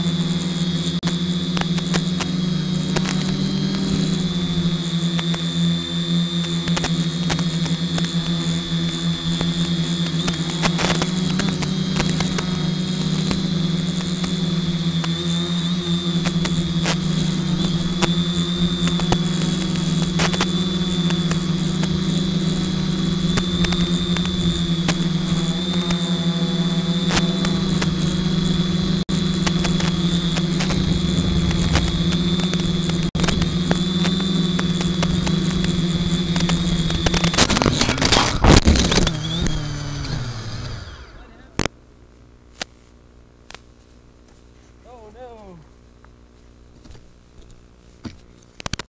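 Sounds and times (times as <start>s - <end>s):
drone propellers humming: 0.0s - 41.7s.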